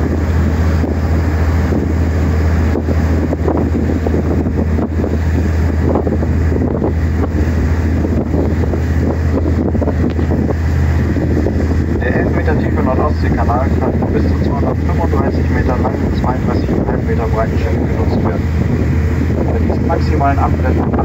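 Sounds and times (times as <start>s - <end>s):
boat engine droning: 0.0s - 21.0s
water washing along hull: 0.0s - 21.0s
wind gusting on microphone: 0.0s - 21.0s.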